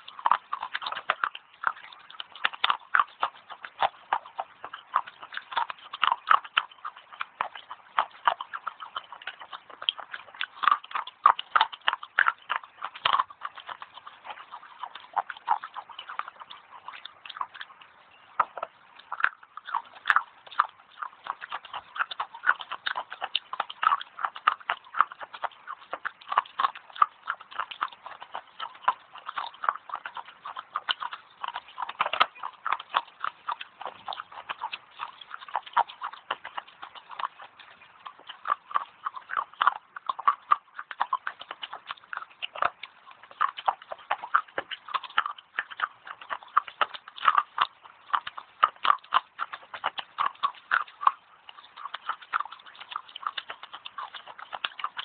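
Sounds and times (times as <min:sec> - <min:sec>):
clay sticks being chewed: 0:00.0 - 0:55.0.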